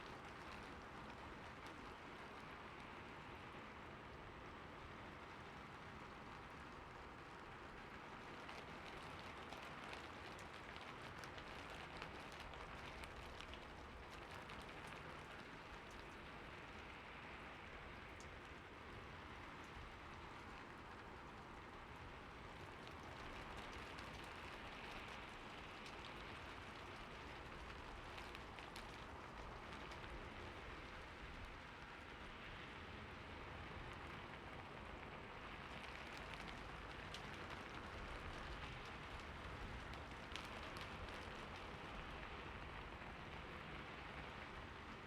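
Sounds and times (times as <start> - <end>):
soft steady rain: 0.0 - 45.0.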